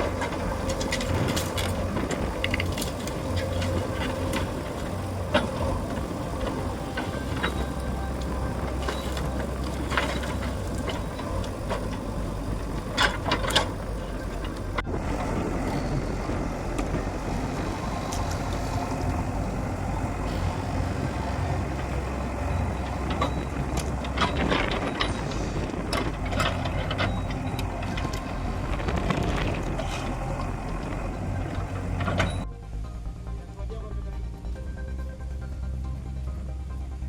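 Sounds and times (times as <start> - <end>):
bucket and rubble clattering: 0.0 - 17.5, 20.2 - 32.4
diesel engine running: 0.0 - 37.0.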